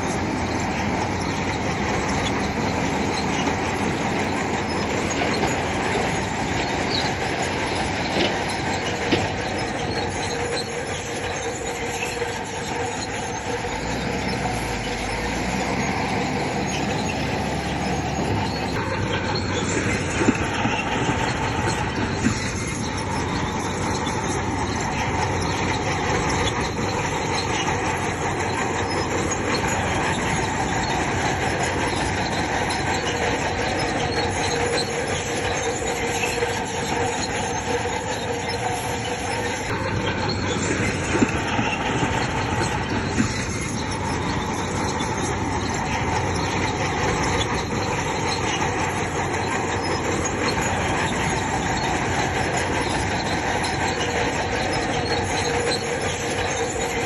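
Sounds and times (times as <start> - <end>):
bulldozer engine under load: 0.0 - 57.0
steel tracks squealing and clanking: 0.0 - 57.0.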